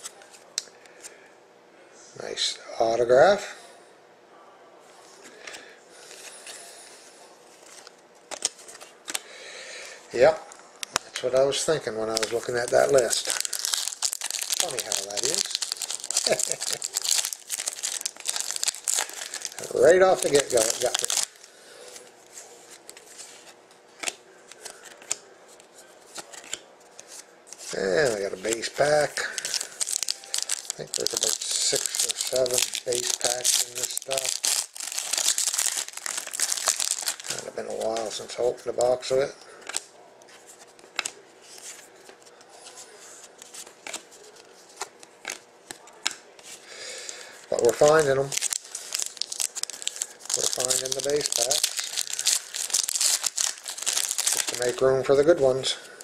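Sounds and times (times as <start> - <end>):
trading cards rustling: 7.5 - 9.3, 11.5 - 25.2, 26.0 - 55.7.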